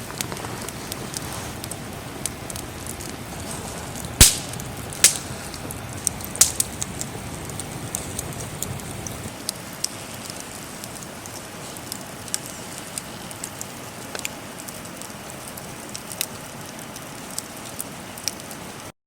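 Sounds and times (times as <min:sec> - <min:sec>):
fire crackling and popping: 0:00.0 - 0:18.9.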